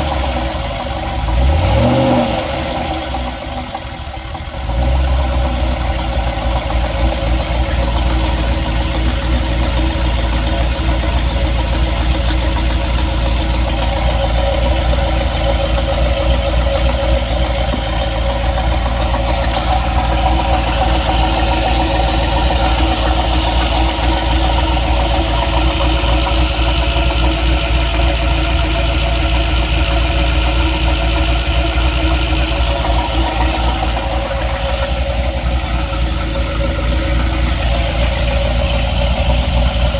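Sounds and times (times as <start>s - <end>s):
engine knocking: 0.0s - 39.9s
vehicle engine idling: 0.0s - 39.9s.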